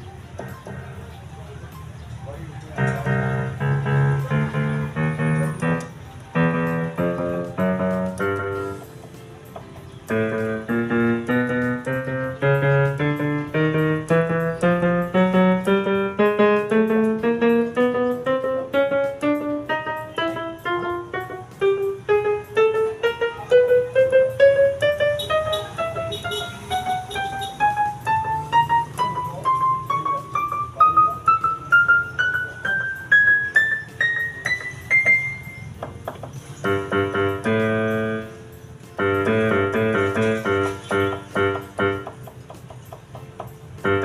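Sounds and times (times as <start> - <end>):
keyboard notes rising chromatically: 0.0 - 44.0.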